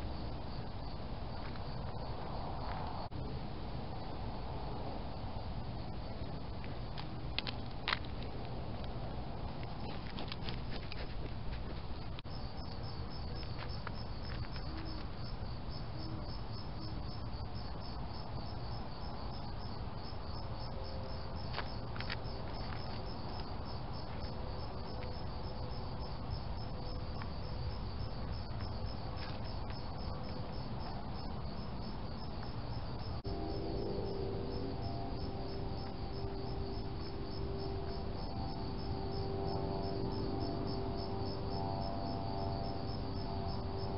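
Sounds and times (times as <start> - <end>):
insects chirping: 0.0 - 43.9
low background noise: 0.0 - 43.9.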